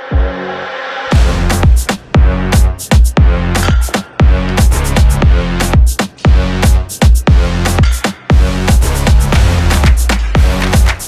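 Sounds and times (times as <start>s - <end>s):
electronic dance music bass drops: 0.0s - 11.0s
drum beat with sharp hits: 1.1s - 11.0s.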